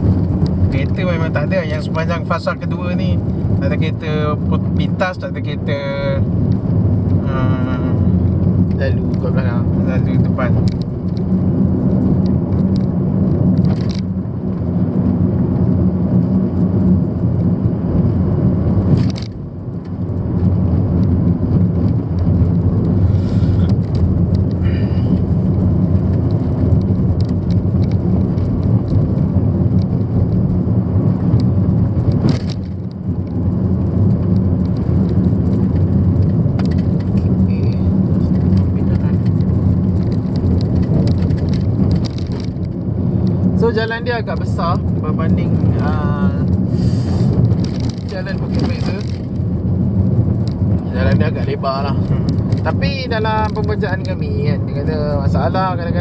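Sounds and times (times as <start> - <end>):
car cabin engine and tyre hum: 0.0 - 56.0.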